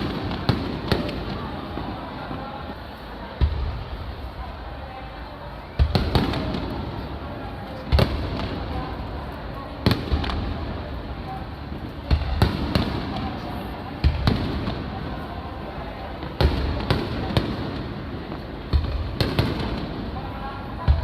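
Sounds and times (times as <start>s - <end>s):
fireworks booming: 0.0s - 4.9s, 5.7s - 21.0s.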